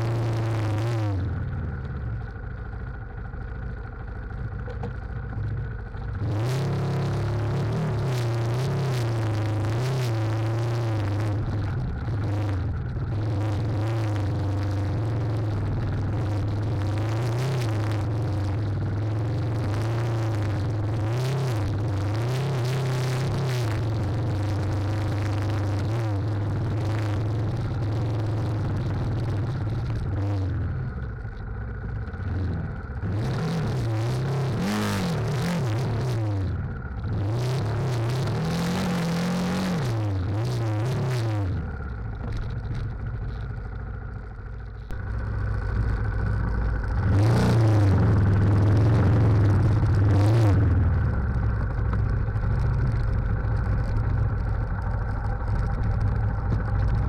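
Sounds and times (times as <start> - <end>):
clatter: 0.0 - 57.0
motorcycle engine revving: 0.0 - 57.0.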